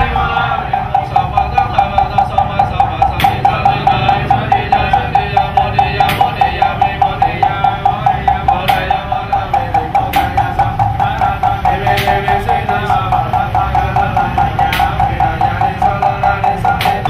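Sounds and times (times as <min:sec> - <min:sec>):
wooden fish knocking: 0:00.0 - 0:17.0.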